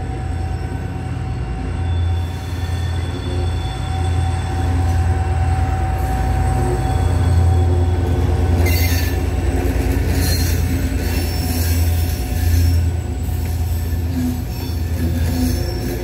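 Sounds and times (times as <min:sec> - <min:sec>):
diesel locomotive engine drone: 0:00.0 - 0:16.0
train wheels squealing: 0:00.0 - 0:16.0.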